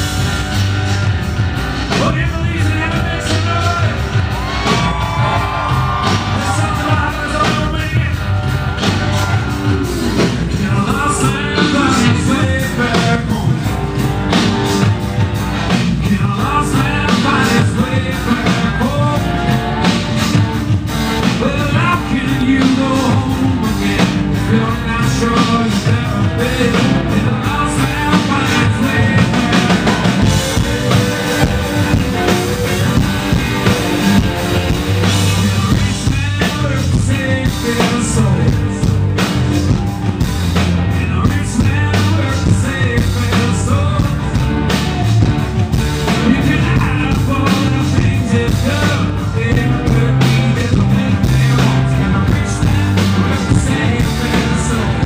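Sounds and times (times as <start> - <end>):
live rock band playing: 0.0 - 55.0
person singing: 1.9 - 14.5, 15.7 - 20.4, 21.2 - 40.2, 40.8 - 55.0.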